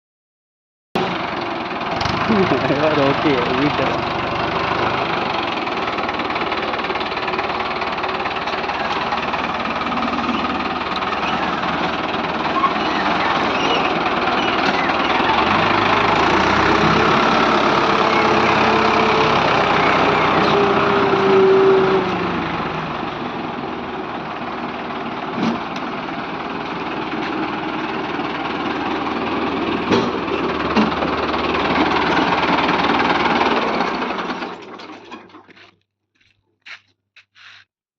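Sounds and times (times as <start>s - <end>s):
tractor diesel engine chugging: 1.0s - 35.6s.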